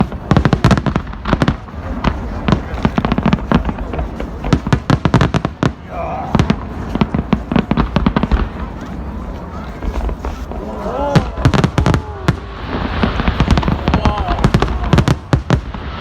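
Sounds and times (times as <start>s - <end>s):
continuous low rumble: 0.0s - 16.0s
fireworks bangs and cracks: 0.0s - 16.0s.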